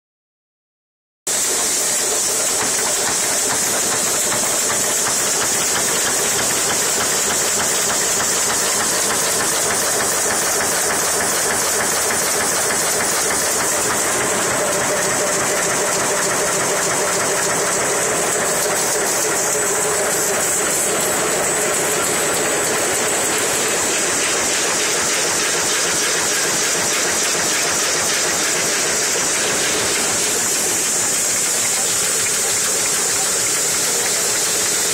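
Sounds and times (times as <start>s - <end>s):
printing press running: 1.3s - 34.9s.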